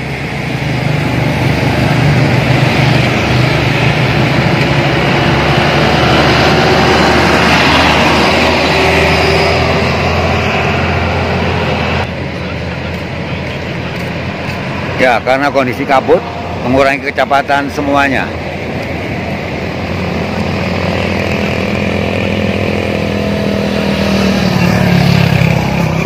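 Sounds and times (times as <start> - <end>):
minibus driving slowly past: 0.0 - 26.0
motorcycles driving past: 0.0 - 26.0.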